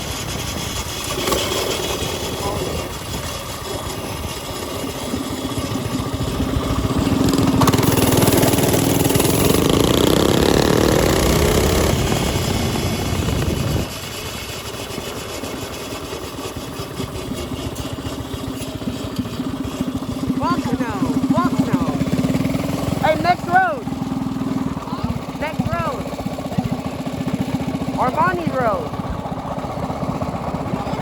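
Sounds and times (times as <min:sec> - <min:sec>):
small engine revving: 0:00.0 - 0:31.0.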